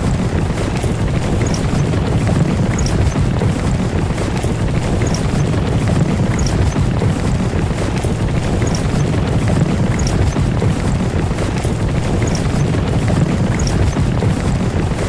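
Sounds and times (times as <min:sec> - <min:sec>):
carriage wheels and hooves rumbling: 0:00.0 - 0:15.0.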